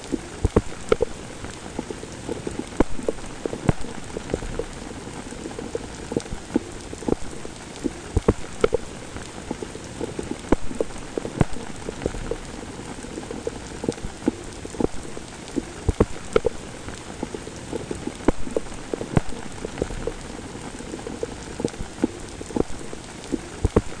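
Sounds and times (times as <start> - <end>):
heavy rain: 0.0 - 24.0
raindrops striking a surface: 0.0 - 24.0.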